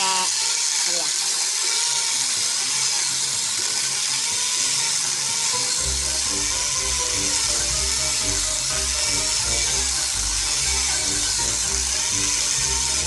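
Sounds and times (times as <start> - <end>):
chainsaw grinder cutting wood: 0.0 - 13.0
background music: 2.3 - 13.0.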